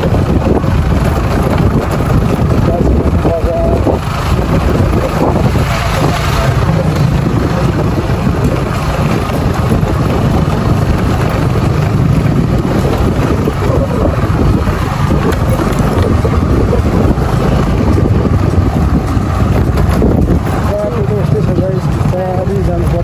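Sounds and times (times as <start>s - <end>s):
scooter engine running: 0.0s - 23.0s
wind buffeting microphone: 0.0s - 23.0s.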